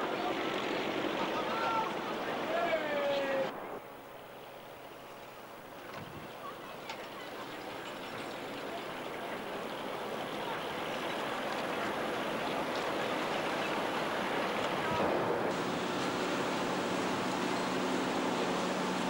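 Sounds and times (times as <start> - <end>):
churning water rushing: 0.0 - 19.0
motor boats passing: 0.0 - 19.0.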